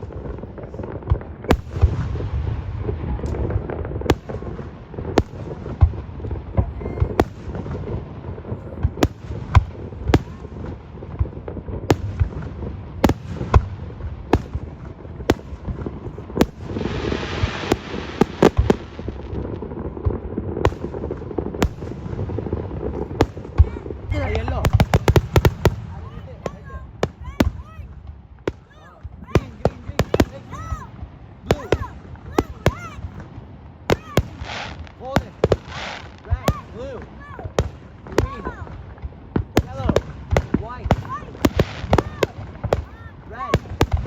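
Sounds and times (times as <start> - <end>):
distant booms: 0.0 - 44.0
fireworks bangs: 0.0 - 44.0
hissing crackle of fireworks: 0.0 - 44.0.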